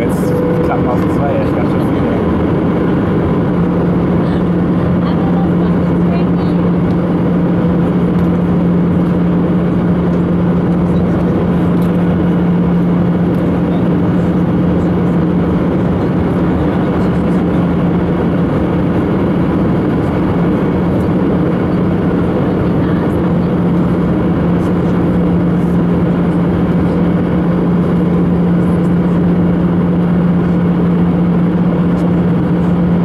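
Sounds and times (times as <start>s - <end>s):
airflow rushing in airplane cabin: 0.0s - 33.0s
constant low hum: 0.0s - 33.0s
jet engine noise: 0.0s - 33.0s.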